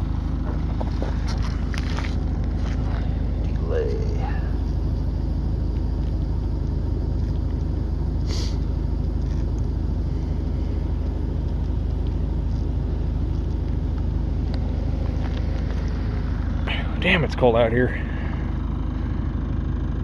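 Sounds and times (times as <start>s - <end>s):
model helicopter rotor rumble: 0.0s - 20.0s.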